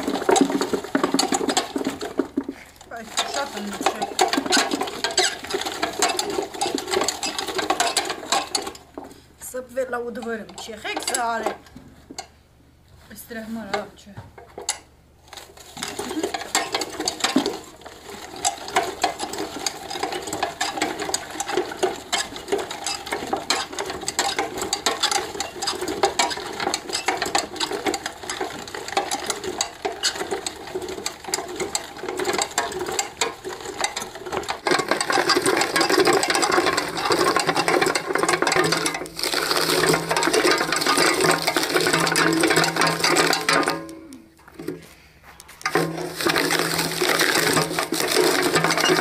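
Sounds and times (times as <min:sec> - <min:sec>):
machine clattering rattle: 0:00.0 - 0:11.6, 0:14.4 - 0:44.9, 0:45.6 - 0:49.0.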